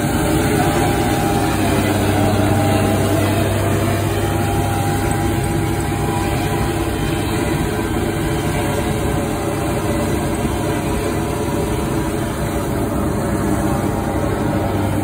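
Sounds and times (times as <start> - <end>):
tracked vehicle engine droning: 0.0 - 15.0.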